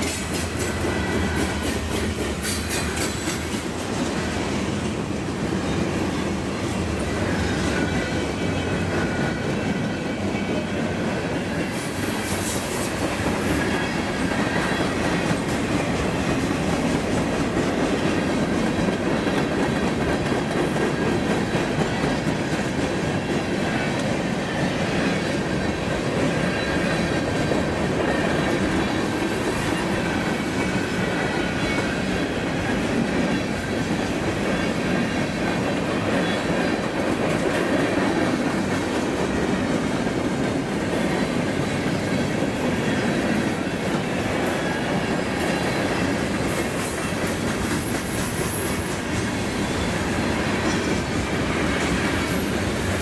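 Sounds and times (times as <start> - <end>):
freight train wheels clattering on rails: 0.0 - 53.0.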